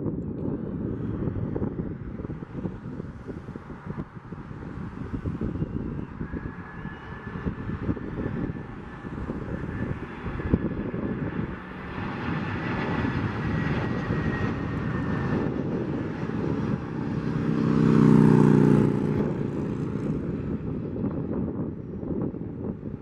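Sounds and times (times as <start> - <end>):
jet airliner engines whining: 0.0 - 23.0.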